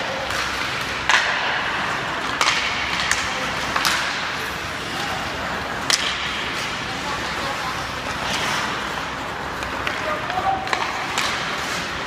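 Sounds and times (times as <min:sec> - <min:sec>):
sticks clacking on puck: 0:00.0 - 0:07.0, 0:08.0 - 0:12.0
skate blades scraping ice: 0:00.0 - 0:12.0.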